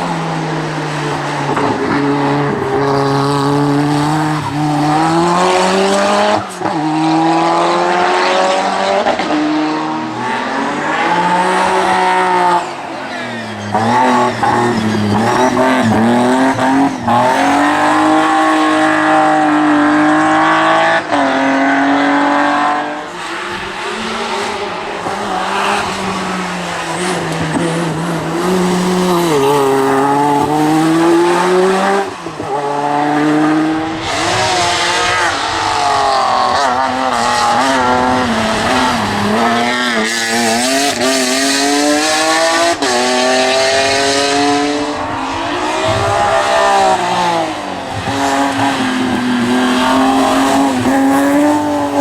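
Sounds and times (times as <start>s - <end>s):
racing car engines revving: 0.0s - 52.0s.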